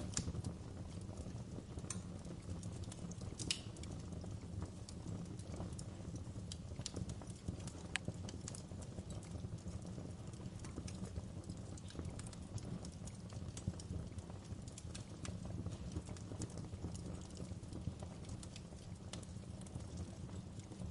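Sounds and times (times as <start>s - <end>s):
low rumble of flames: 0.0s - 20.9s
wood fire crackling and popping: 0.0s - 20.9s.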